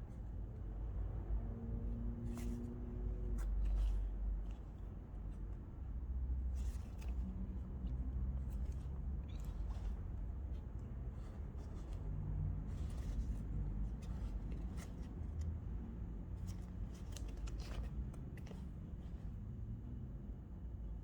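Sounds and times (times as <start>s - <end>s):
fabric rustling and scratching: 2.2s - 19.5s.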